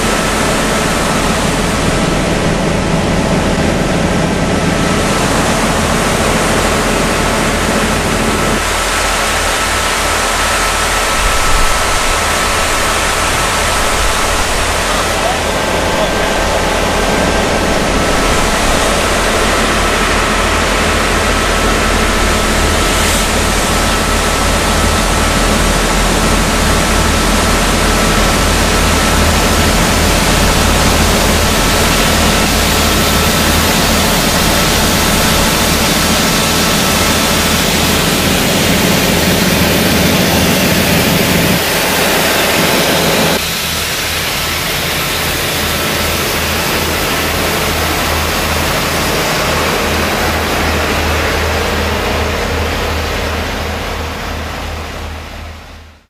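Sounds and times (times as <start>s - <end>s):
engines and pumps running: 0.0s - 56.0s
rushing hiss of water jets: 4.9s - 55.0s.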